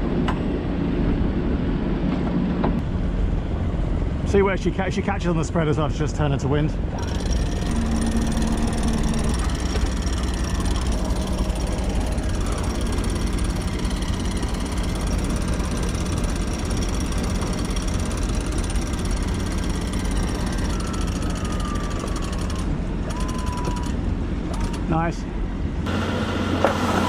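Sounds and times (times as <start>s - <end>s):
yacht engine humming: 0.0s - 27.0s.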